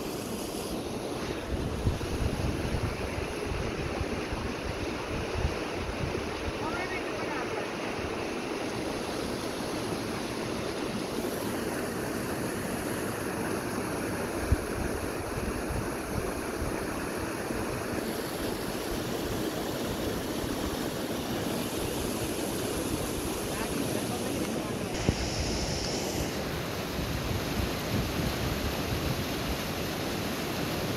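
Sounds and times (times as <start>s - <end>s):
river rushing over rocks: 2.2s - 15.6s, 16.4s - 30.9s.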